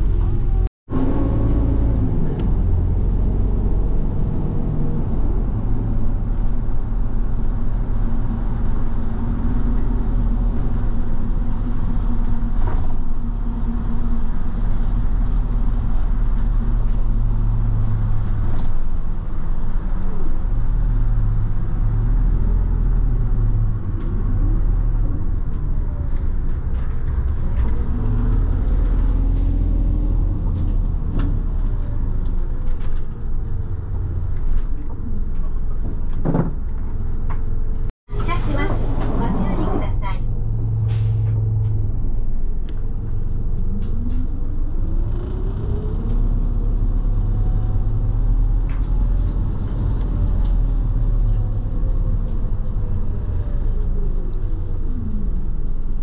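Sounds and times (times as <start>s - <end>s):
bus engine running: 0.0s - 56.0s
road noise: 0.0s - 56.0s.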